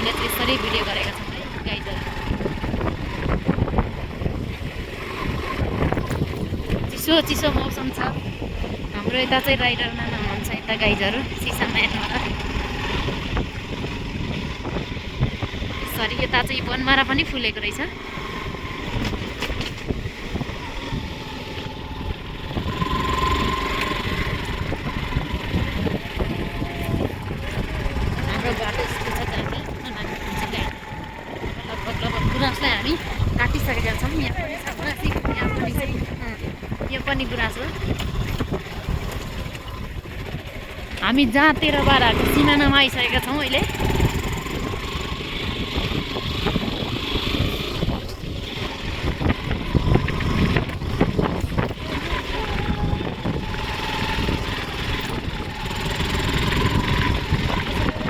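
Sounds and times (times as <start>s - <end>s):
motorcycle engine rumble: 0.0s - 58.0s
wind buffeting microphone: 0.0s - 58.0s.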